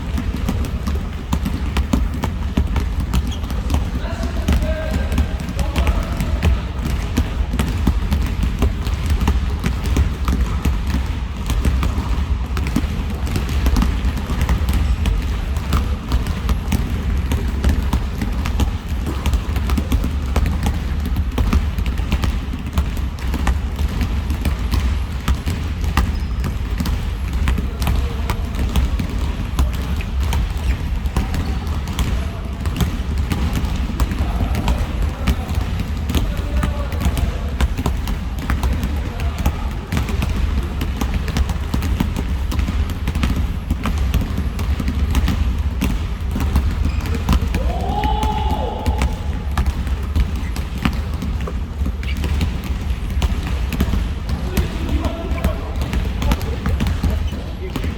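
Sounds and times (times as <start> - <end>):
basketballs bouncing on gym floor: 0.0 - 57.9.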